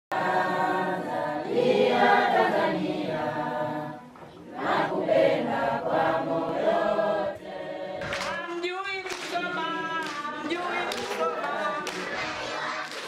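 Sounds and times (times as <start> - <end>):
group of voices singing: 0.1 - 13.0.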